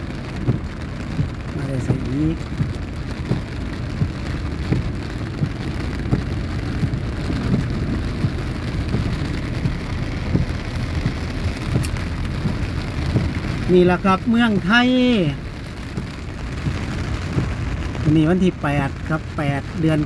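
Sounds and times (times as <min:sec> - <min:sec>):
heavy rain on car roof: 0:00.0 - 0:20.0
low road rumble: 0:00.0 - 0:20.0.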